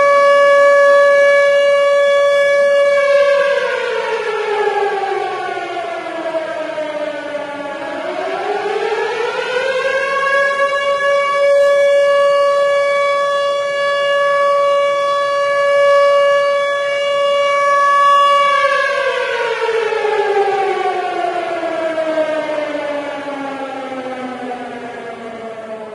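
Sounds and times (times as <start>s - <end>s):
air-raid siren wailing: 0.0s - 25.9s.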